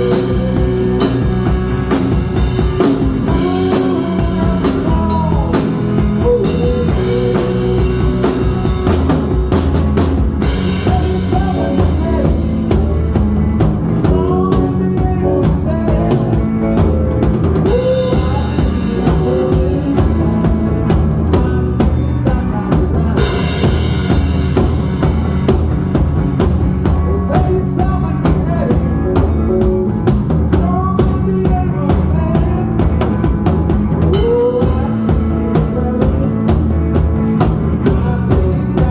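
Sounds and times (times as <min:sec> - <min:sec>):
bass guitar: 0:00.0 - 0:38.9
drum kit beat: 0:00.0 - 0:38.9
electric lead guitars: 0:00.0 - 0:38.9.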